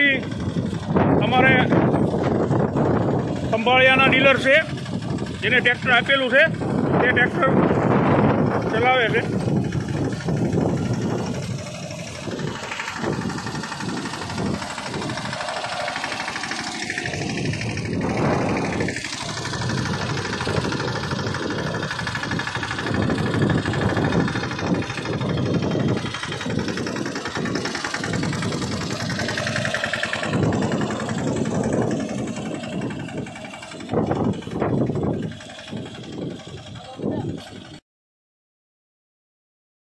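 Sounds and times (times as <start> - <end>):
tractor diesel engine running: 0.0 - 37.8.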